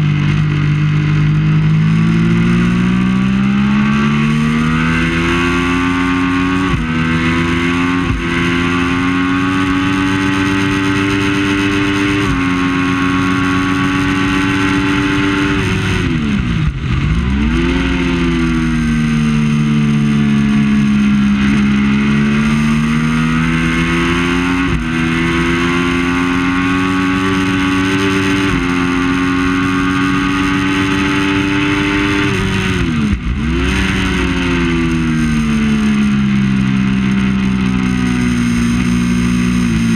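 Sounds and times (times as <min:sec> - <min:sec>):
motorcycle engine at race pace: 0:00.0 - 0:39.9
steady rushing noise: 0:00.0 - 0:39.9.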